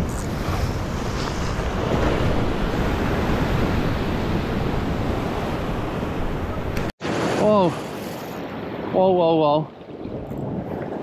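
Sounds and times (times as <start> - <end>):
wind rumbling on microphone: 0.0 - 11.0
ocean surf washing over rocks: 0.3 - 10.1.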